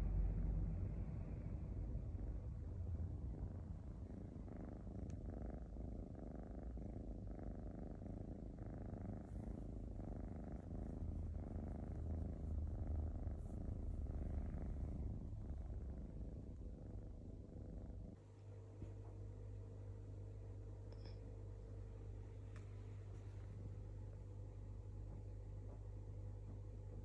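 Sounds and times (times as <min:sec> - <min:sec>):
kitten purring: 0:00.0 - 0:27.0.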